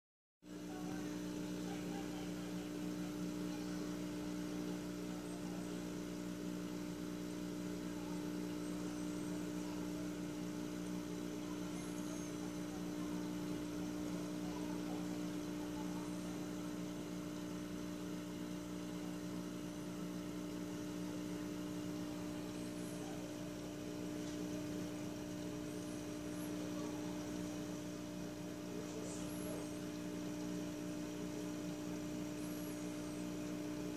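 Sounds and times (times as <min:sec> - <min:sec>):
aquarium equipment humming: 0:00.5 - 0:33.9.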